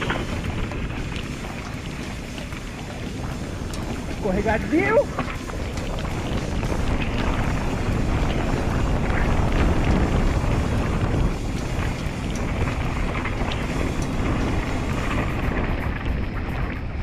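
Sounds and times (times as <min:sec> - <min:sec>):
bike clicks and rattles: 0:00.0 - 0:17.0
bike tyre noise on dirt: 0:00.0 - 0:17.0
wind buffeting microphone: 0:00.0 - 0:17.0.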